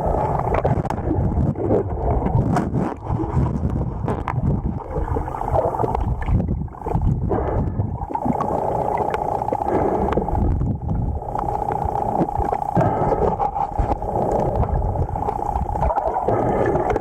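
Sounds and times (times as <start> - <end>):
buzzing hum: 0.0 - 17.0
gurgling bubbles: 0.0 - 17.0
underwater river rush: 0.0 - 17.0.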